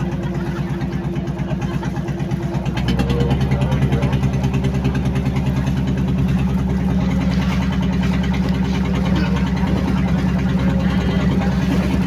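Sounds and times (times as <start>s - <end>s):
large engine idling: 0.0s - 12.0s.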